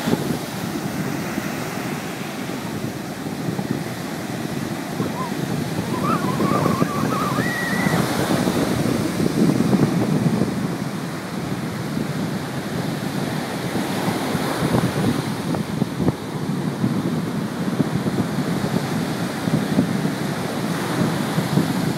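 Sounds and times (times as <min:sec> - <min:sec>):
waves breaking on beach: 0:00.0 - 0:21.9
wind buffeting microphone: 0:00.0 - 0:21.9.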